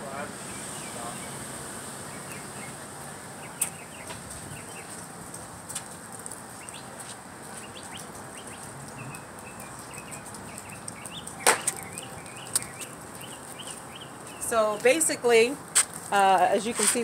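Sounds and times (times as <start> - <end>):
small birds chirping: 0.4 - 5.1, 6.2 - 17.0.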